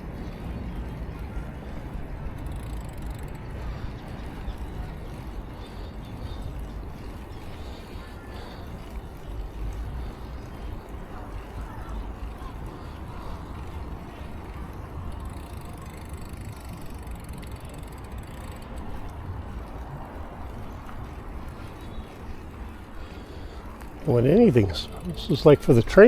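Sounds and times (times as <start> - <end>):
bicycle tyres on road: 0.0 - 26.0.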